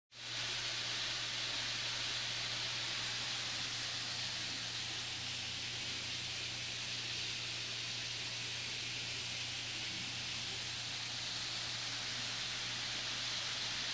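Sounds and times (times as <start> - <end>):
waterfall hissing: 0.1 - 13.9.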